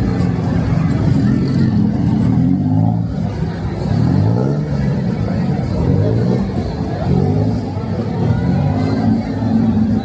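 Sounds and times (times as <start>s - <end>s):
street traffic: 0.0s - 10.0s
vehicle engine revving: 0.0s - 10.0s.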